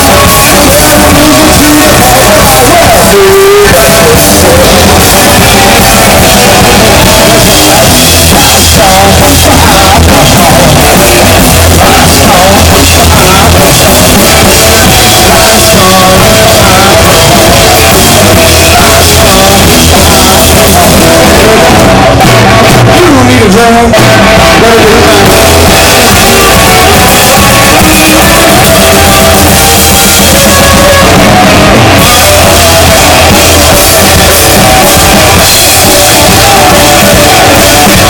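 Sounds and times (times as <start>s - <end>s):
bass guitar: 0.0s - 38.0s
drum kit: 0.0s - 38.0s
electric guitar: 0.0s - 38.0s
man singing: 0.0s - 38.0s.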